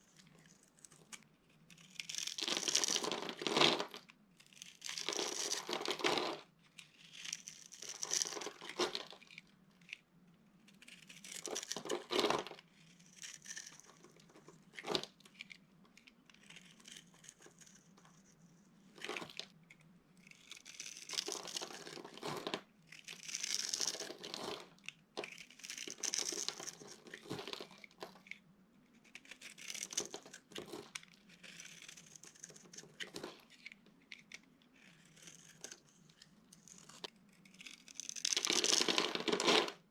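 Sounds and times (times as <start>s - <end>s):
dry soap crackling and crunching: 0.0s - 10.0s, 10.6s - 39.9s.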